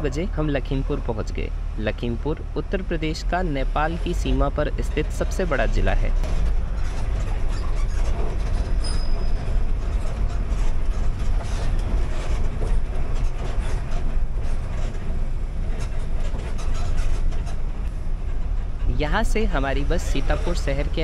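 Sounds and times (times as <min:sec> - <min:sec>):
bus engine and road rumble: 0:00.0 - 0:21.0
bus body rattles and knocks: 0:04.1 - 0:21.0.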